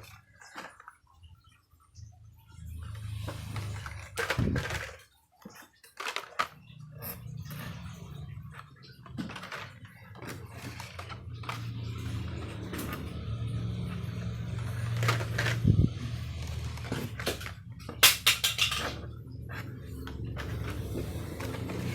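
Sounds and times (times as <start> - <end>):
packaging clicking and rustling: 0.0 - 1.0, 3.0 - 21.9.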